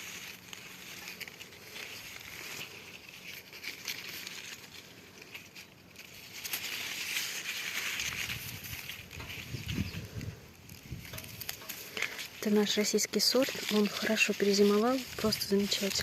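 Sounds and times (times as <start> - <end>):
leaves rustling and crinkling: 0.0 - 16.0.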